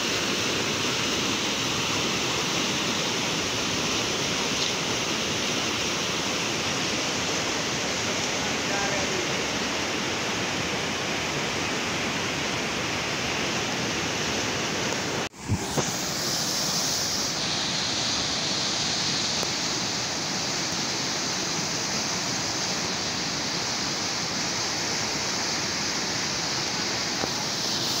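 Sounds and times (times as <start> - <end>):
river rushing: 0.0 - 28.0.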